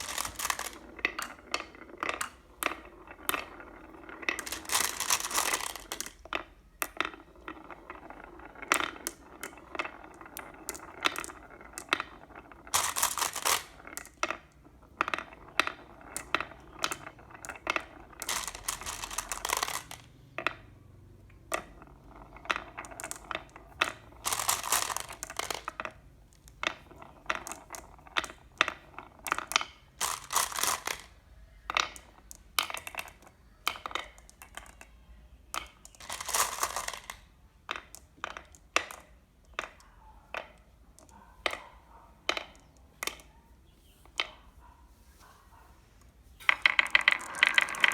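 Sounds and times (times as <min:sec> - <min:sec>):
marbles rolling on wooden track: 0:00.0 - 0:44.7, 0:46.0 - 0:47.9.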